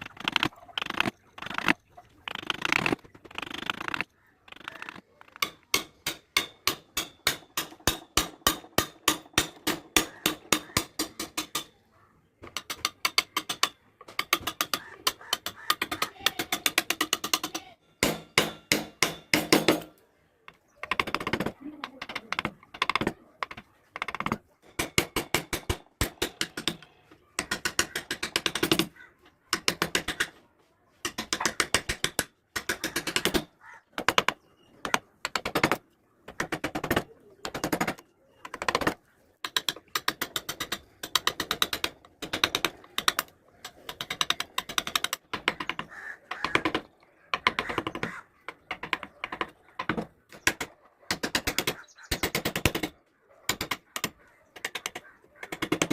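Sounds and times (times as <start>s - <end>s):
carving tools tapping wood: 2.3s - 11.8s, 12.4s - 19.9s, 20.5s - 30.4s, 31.0s - 43.3s, 43.9s - 55.9s.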